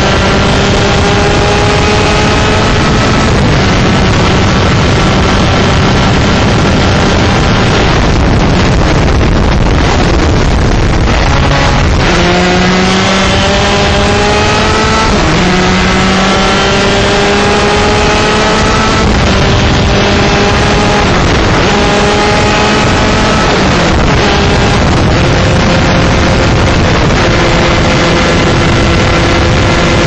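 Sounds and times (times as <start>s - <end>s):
kart engine accelerating through gears: 0.0s - 30.0s
wind rushing: 0.0s - 30.0s.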